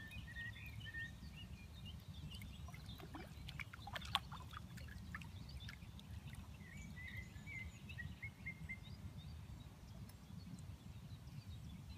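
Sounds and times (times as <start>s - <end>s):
bird chirping: 0.0s - 11.9s.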